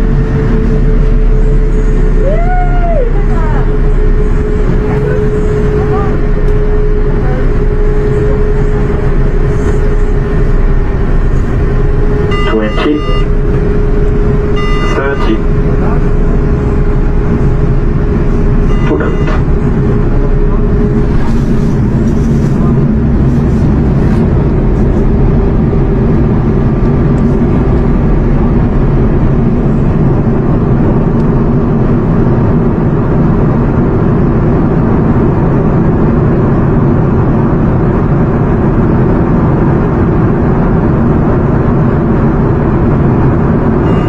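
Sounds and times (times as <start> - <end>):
aircraft engine noise: 0.0 - 44.0.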